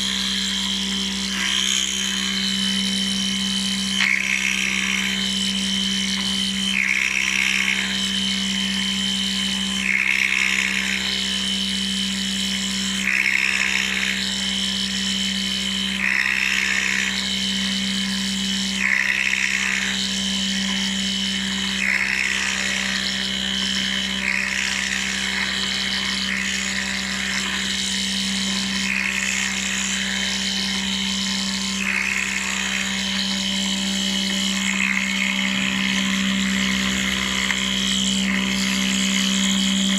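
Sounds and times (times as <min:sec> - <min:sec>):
milling machine hum and whine: 0:00.0 - 0:39.9.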